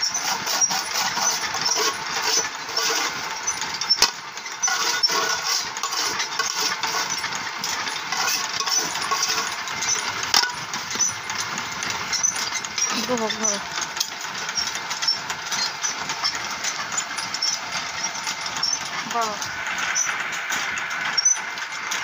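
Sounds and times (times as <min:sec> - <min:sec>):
roasting machine rattling crackle: 0:00.0 - 0:22.0.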